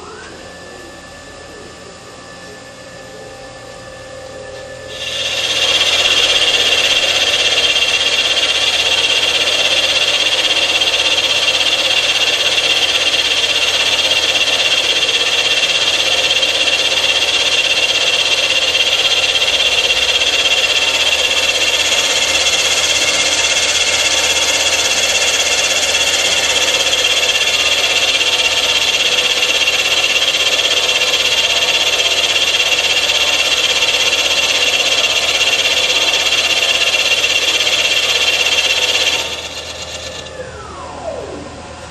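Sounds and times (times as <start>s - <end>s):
milling cutter cutting metal: 4.9s - 40.3s.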